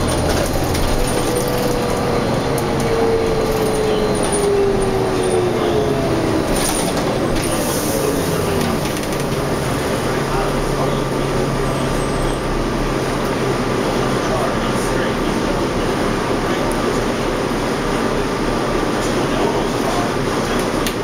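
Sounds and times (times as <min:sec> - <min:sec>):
bus engine rumble and road noise: 0:00.0 - 0:21.0.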